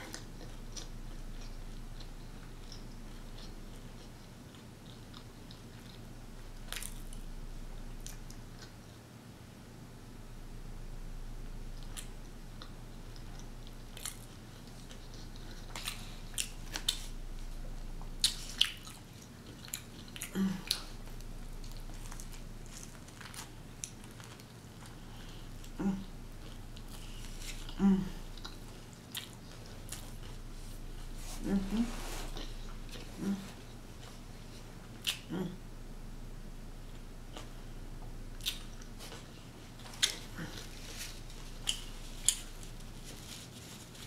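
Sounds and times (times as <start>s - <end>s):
chewing and biting food: 0.0s - 9.0s, 11.8s - 31.6s, 37.0s - 44.0s.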